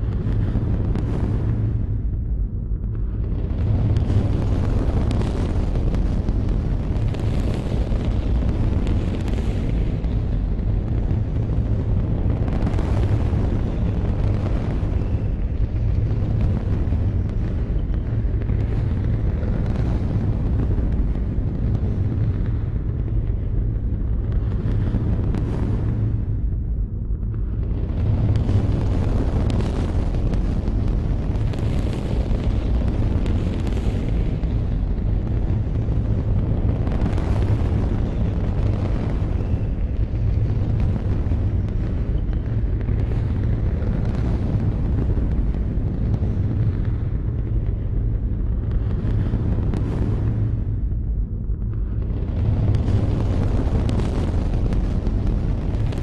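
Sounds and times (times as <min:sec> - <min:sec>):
rocket engines roaring: 0:00.0 - 0:56.0.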